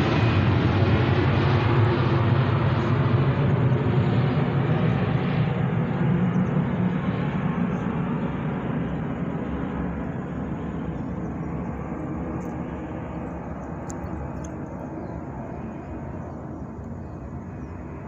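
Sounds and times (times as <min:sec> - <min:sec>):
jet airliner climbing overhead: 0:00.0 - 0:18.0.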